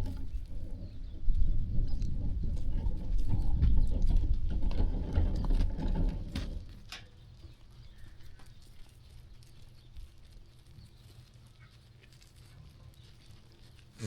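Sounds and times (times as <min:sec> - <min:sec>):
sheep hooves stepping: 0:01.9 - 0:14.0.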